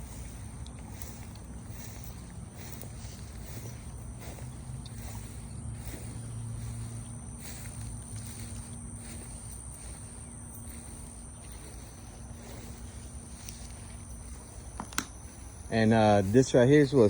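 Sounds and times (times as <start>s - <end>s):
faint steady hum: 0.0s - 17.0s
insect chorus buzzing: 0.0s - 17.0s.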